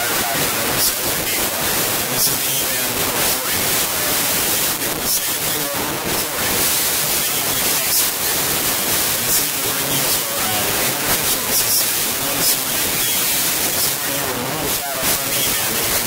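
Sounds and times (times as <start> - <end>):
loud steady hiss: 0.0 - 16.0.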